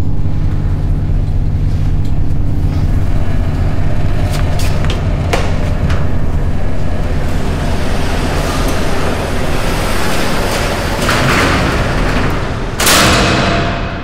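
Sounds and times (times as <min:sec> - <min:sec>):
steady low rumble: 0:00.0 - 0:14.0
metal garage door scraping and rattling: 0:01.6 - 0:14.0
garage door closing with bang: 0:02.6 - 0:14.0.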